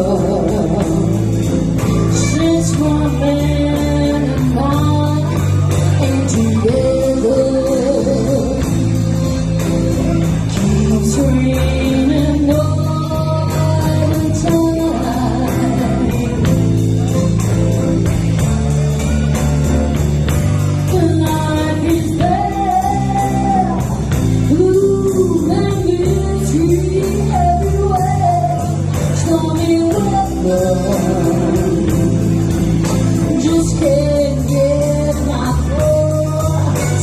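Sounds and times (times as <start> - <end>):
bass guitar: 0.0 - 37.0
electric guitar: 0.0 - 37.0
live blues band: 0.0 - 37.0.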